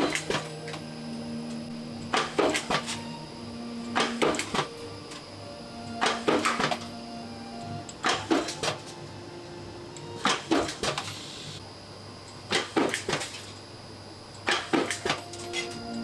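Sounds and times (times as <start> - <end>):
low steady hum: 0.0 - 12.5, 13.4 - 16.0.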